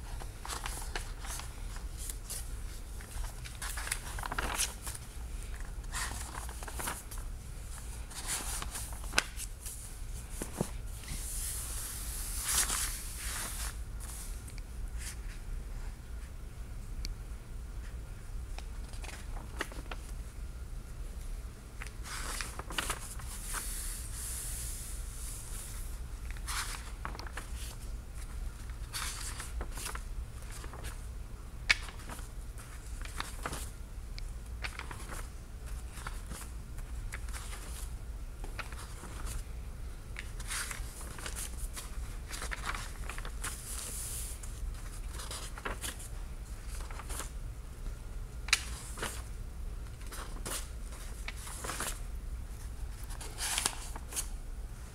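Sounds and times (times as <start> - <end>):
book pages turning: 0.0 - 15.4, 18.5 - 20.2, 21.8 - 24.6, 25.2 - 31.1, 31.7 - 39.5, 40.2 - 47.4, 48.4 - 54.4
steady low hum: 0.0 - 54.9.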